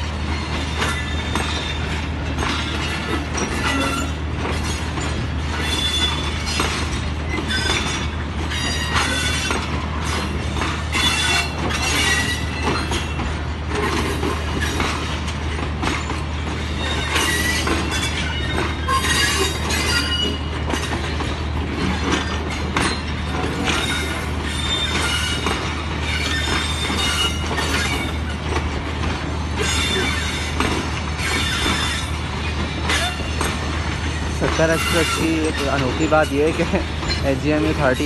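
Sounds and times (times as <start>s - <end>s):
diesel locomotive rumble: 0.0s - 38.0s
train wheels squealing on rails: 0.0s - 38.0s
clicks over rail joints: 0.2s - 38.0s.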